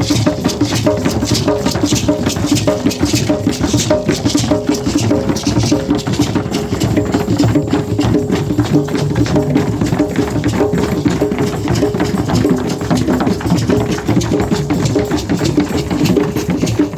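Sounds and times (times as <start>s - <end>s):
fast rhythmic drumming: 0.0s - 16.9s.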